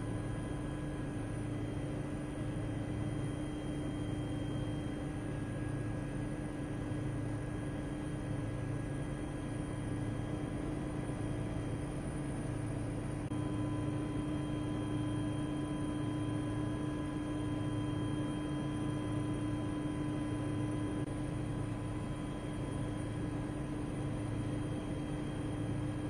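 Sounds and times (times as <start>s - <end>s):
aircraft engine and airflow drone: 0.0s - 26.0s.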